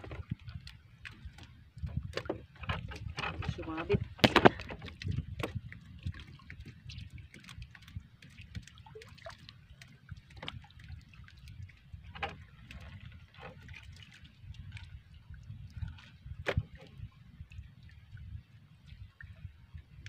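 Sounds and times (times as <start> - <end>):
sea water lapping around boat: 0.0 - 20.0.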